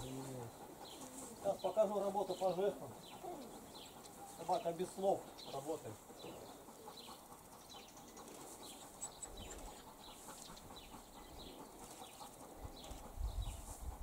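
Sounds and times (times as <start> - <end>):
birds chirping: 0.0 - 14.0
rural ambience: 0.0 - 14.0.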